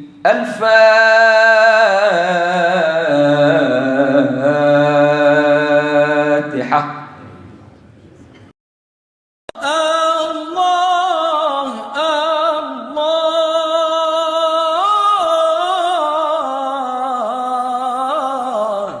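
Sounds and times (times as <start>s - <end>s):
person chanting: 0.0s - 7.8s, 9.5s - 19.0s.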